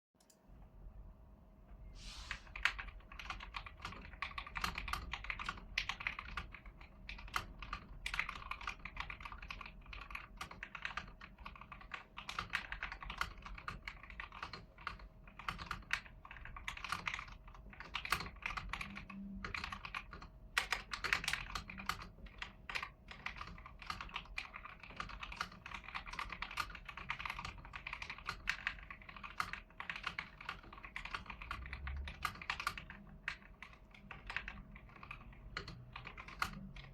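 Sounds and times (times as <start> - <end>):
mechanical keyboard typing: 2.4 - 36.9.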